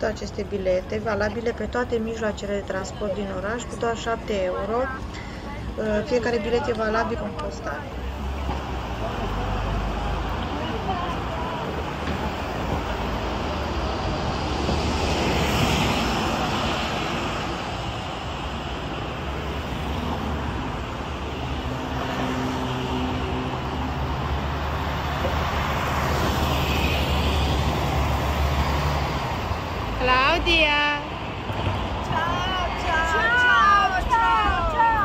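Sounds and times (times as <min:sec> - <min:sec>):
cars passing: 0:00.0 - 0:35.0.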